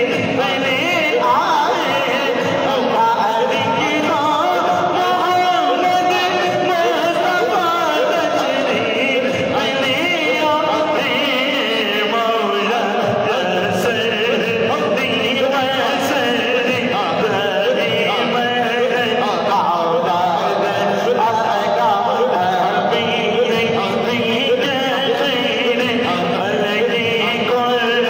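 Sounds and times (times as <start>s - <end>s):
devotional chant-like singing: 0.0s - 28.0s.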